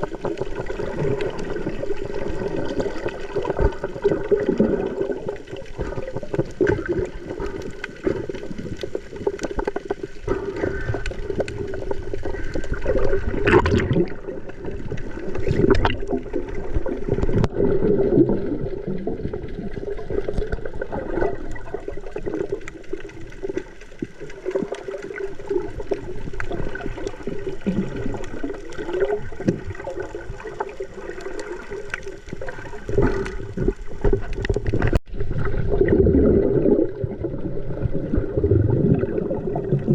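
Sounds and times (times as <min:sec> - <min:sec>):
water sloshing and gurgling: 0:00.0 - 0:39.9
water splashes: 0:00.0 - 0:39.9.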